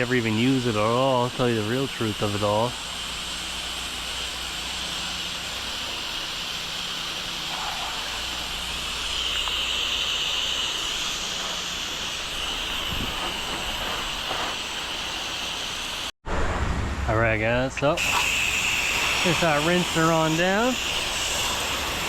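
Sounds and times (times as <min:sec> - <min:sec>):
pressure washer water jet hissing: 0:00.0 - 0:16.2, 0:17.9 - 0:22.0.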